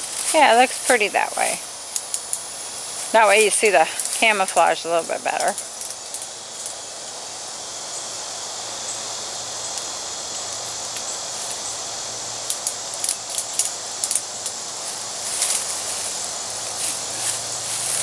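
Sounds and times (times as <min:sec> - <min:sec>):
outdoor ambience hiss: 0:00.0 - 0:18.0.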